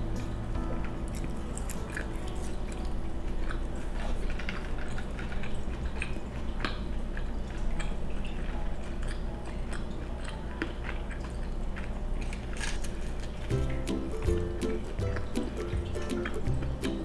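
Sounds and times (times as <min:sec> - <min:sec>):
person chewing soft food: 0:00.2 - 0:17.0.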